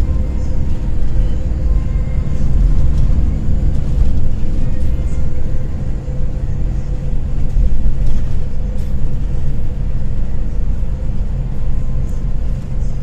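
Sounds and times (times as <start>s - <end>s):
coach engine and road rumble: 0.0s - 13.0s.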